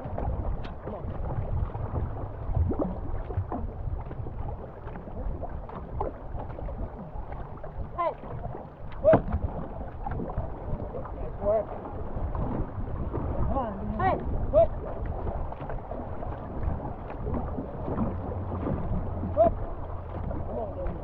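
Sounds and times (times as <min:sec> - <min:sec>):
paddles pulling through water: 0:00.0 - 0:21.0
water washing along hull: 0:00.0 - 0:21.0
wind buffeting microphone: 0:00.0 - 0:21.0.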